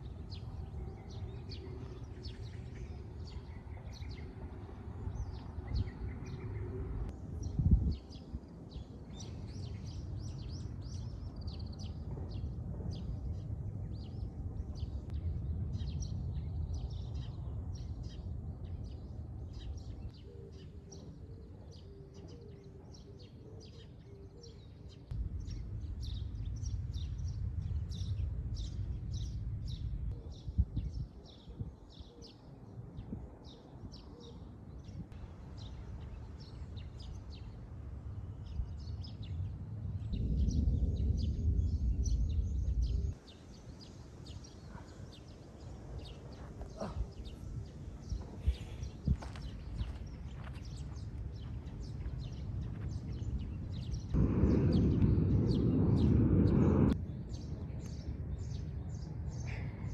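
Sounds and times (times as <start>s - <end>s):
low outdoor rumble: 0.0s - 20.2s, 25.1s - 31.0s, 34.8s - 59.9s
small birds chirping: 0.0s - 59.9s.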